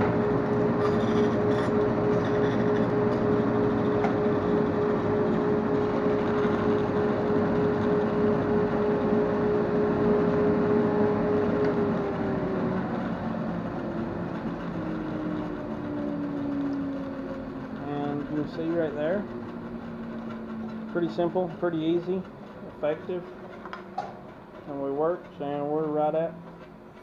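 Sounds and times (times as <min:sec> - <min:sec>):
motor winding down: 0:00.0 - 0:26.5
bandsaw humming: 0:00.0 - 0:26.8.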